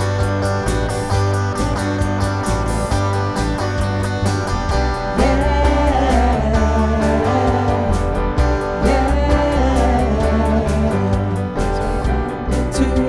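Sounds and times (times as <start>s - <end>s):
band playing praise song with guitar: 0.0s - 13.0s.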